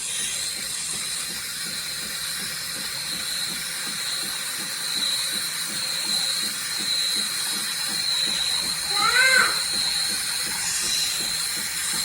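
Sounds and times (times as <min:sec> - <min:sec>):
rapid low pulsing of machine: 0:00.0 - 0:12.0
steam hiss frothing milk: 0:00.0 - 0:12.0.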